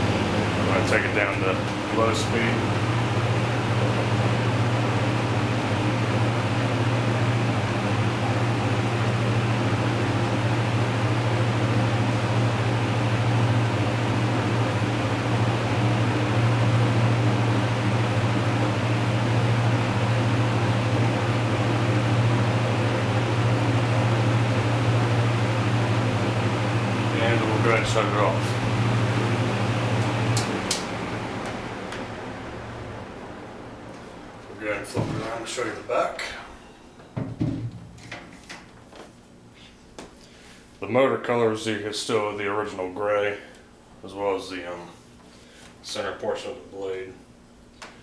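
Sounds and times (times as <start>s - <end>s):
box fan running: 0.0s - 48.0s.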